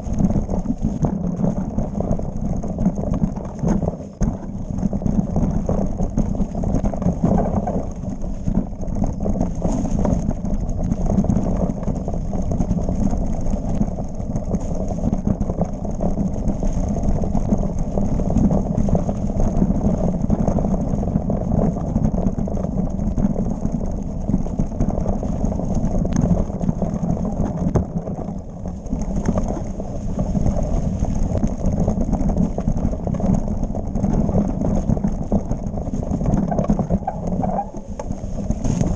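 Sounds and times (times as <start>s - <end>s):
heavy low rumble: 0.0s - 38.9s
mountain bike rattling on dirt trail: 0.0s - 38.9s.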